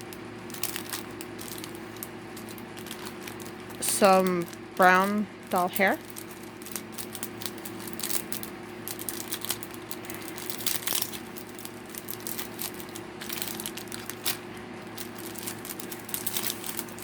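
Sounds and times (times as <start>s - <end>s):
faint steady hum: 0.0s - 17.0s
plastic packaging crinkling: 0.0s - 17.0s.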